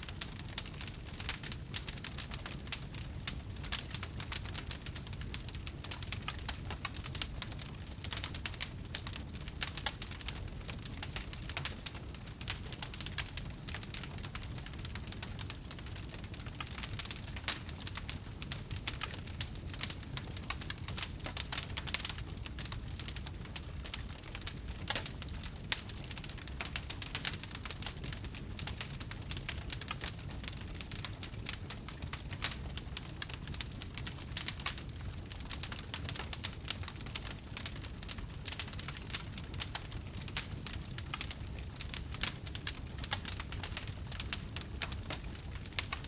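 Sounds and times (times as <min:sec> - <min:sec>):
bonfire crackling: 0:00.0 - 0:46.0
low rumble of flames: 0:00.0 - 0:46.0.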